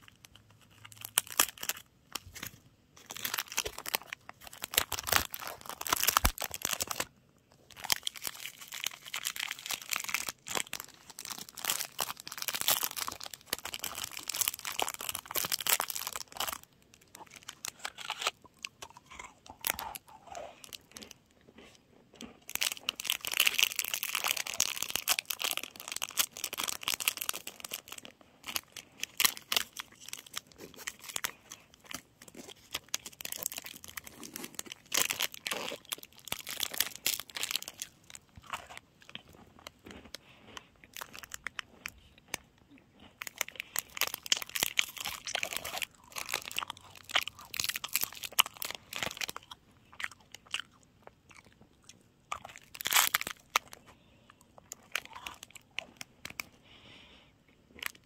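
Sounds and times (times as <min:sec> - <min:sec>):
plastic wrapper crinkling: 0:00.0 - 0:21.1, 0:22.4 - 0:39.8, 0:40.9 - 0:42.0, 0:43.2 - 0:49.6, 0:52.4 - 0:53.9, 0:57.8 - 0:58.0.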